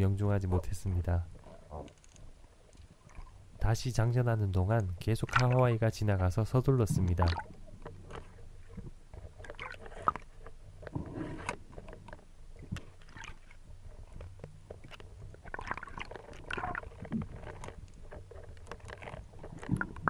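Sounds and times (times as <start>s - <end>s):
muffled underwater sloshing: 0.5s - 20.0s.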